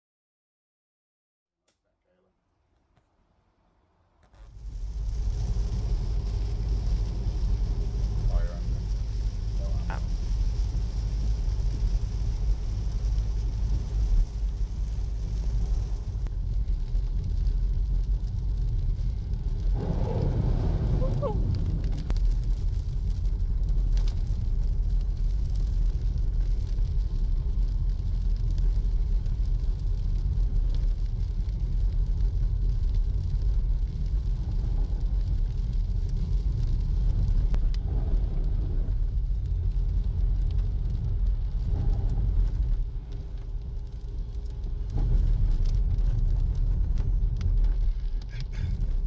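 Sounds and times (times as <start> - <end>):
car engine and tyres rumbling: 2.6 - 49.0.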